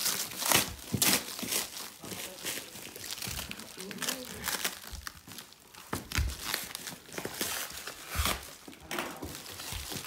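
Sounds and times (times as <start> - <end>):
plastic wrap crinkling and tearing: 0.0 - 10.0.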